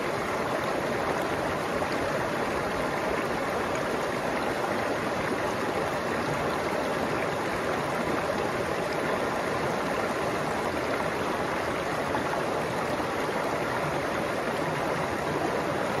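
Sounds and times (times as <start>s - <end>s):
stream babbling over stones: 0.0s - 16.0s.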